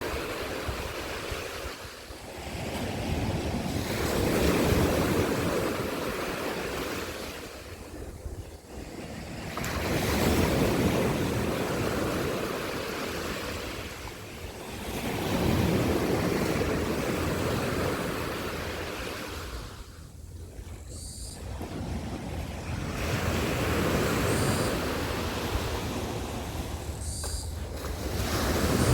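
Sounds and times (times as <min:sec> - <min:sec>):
waves breaking on a beach: 0:00.0 - 0:28.9.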